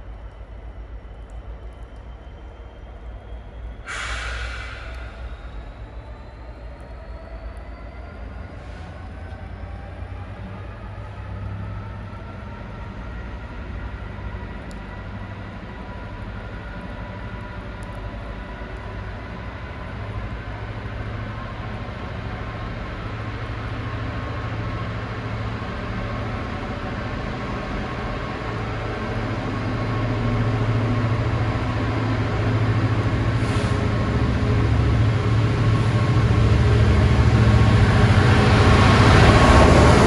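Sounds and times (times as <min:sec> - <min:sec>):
diesel locomotive engine humming: 0:00.0 - 0:40.0.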